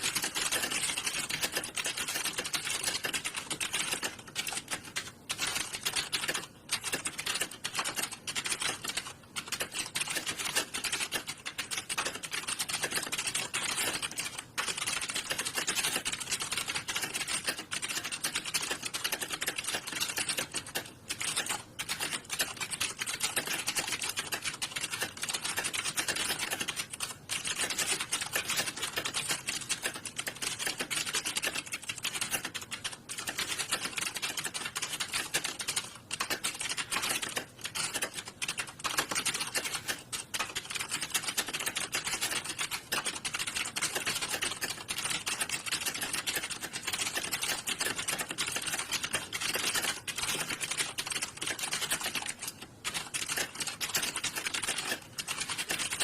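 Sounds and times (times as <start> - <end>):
keyboards clattering: 0.0 - 56.0.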